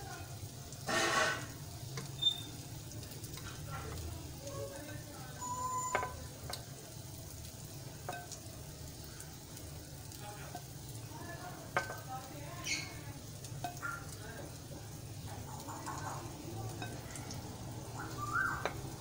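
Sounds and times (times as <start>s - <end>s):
bread sizzling in oil: 0.0s - 19.0s.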